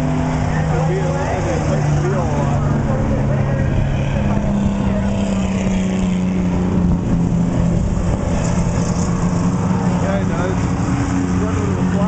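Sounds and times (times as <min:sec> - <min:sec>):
racing truck engines droning: 0:00.0 - 0:12.0.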